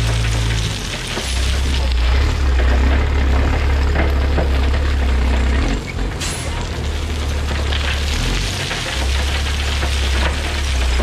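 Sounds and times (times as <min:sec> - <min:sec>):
rock sliding and rattling: 0:00.0 - 0:11.0
truck engine droning: 0:00.0 - 0:11.0.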